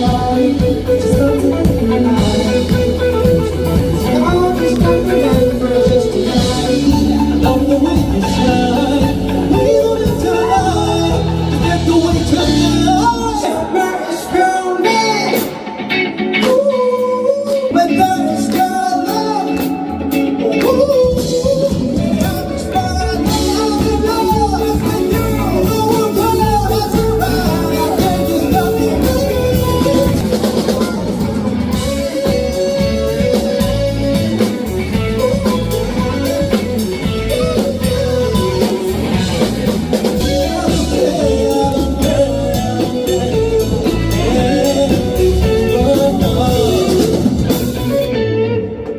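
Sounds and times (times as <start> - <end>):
drum kit: 0.0 - 48.9
guitar: 0.0 - 48.9
person singing: 0.0 - 48.9.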